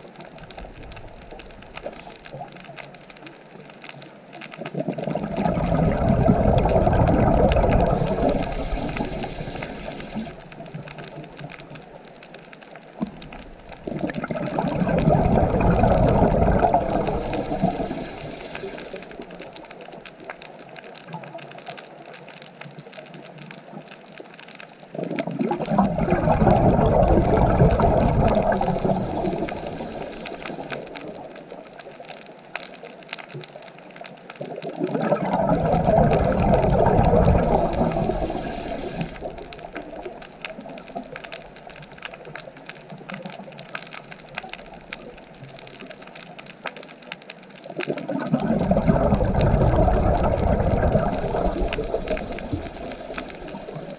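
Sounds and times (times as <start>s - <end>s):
faint crackling: 0.0s - 53.9s
underwater exhaled bubbles: 0.0s - 53.9s.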